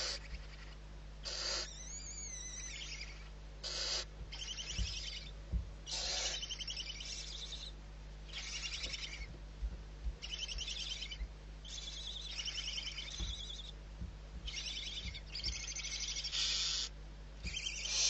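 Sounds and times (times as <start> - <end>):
owl raspy calls: 0.0 - 9.4, 10.2 - 13.8, 14.5 - 18.0
steady low hum: 0.0 - 18.0.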